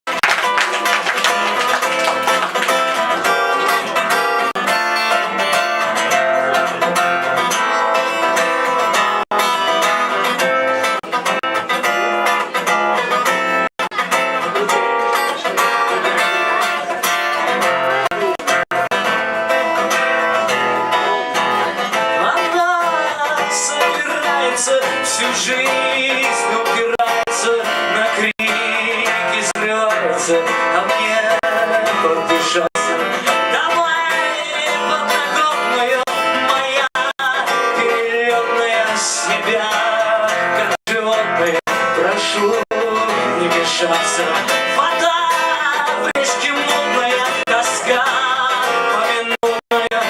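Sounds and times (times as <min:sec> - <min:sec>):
acoustic guitar playing: 0:00.1 - 0:50.0.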